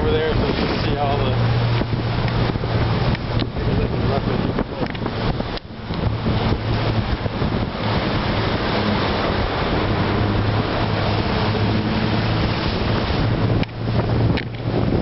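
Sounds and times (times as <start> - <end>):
boat engine drone: 0.0 - 15.0
water rushing past hull: 0.0 - 15.0
wind buffeting microphone: 0.0 - 15.0.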